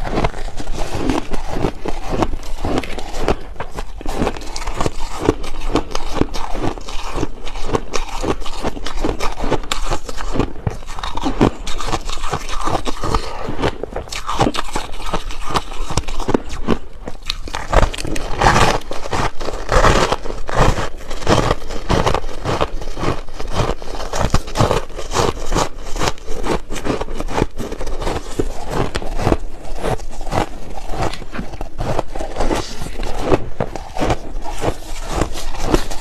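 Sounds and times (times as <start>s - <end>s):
crunching ice: 0.0s - 36.0s.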